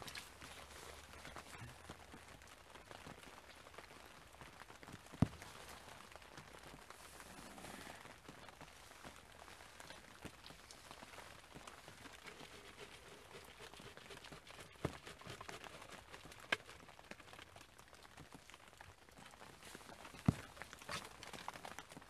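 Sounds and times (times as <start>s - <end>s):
light rain pattering on fabric: 0.0s - 22.0s.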